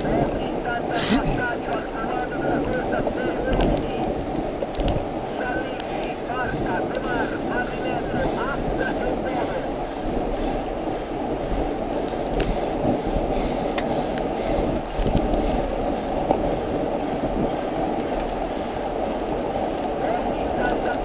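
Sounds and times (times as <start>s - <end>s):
wet road noise: 0.0s - 21.0s
wind rush: 0.0s - 21.0s.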